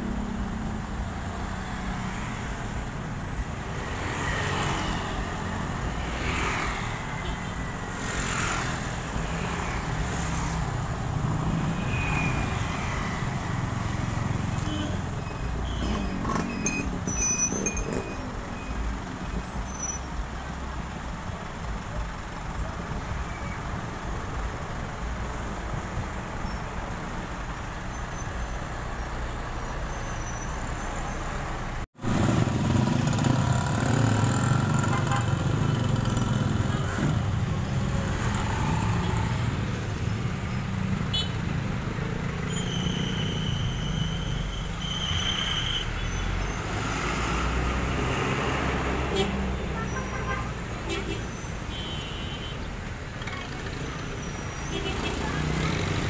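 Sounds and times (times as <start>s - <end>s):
trucks and buses engines: 0.0s - 56.0s.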